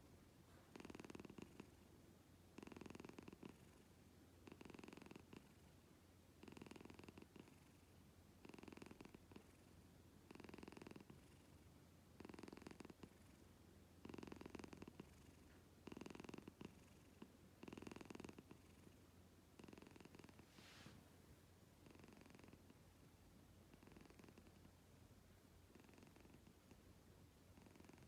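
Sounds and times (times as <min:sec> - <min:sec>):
cat purring: 0:00.5 - 0:01.9, 0:02.5 - 0:05.8, 0:06.4 - 0:21.1, 0:21.8 - 0:23.0, 0:23.6 - 0:24.8, 0:25.6 - 0:28.0.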